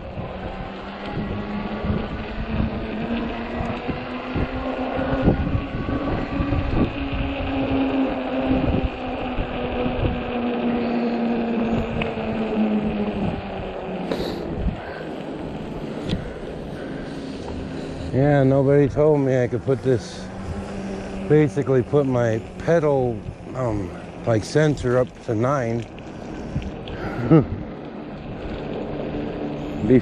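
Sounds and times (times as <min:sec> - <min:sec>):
electric motor whining: 0:00.0 - 0:30.0
tires on crunchy snow: 0:00.0 - 0:30.0.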